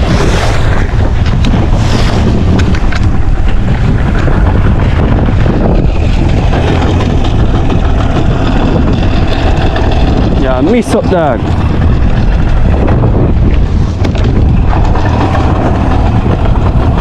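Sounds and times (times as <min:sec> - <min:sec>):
water and hull noise: 0:00.0 - 0:17.0
wind buffeting microphone: 0:00.0 - 0:17.0.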